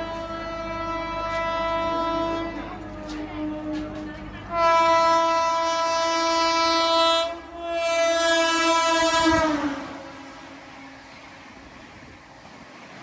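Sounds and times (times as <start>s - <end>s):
train horn blasts: 0.0s - 11.3s
train rushing past: 0.0s - 13.0s.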